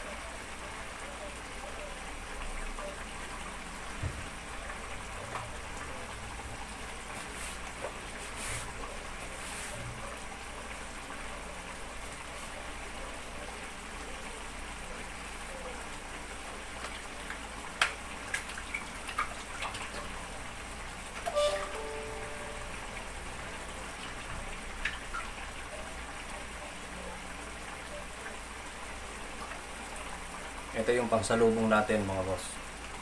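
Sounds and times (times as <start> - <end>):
liquid simmering in a wok: 0.0 - 33.0.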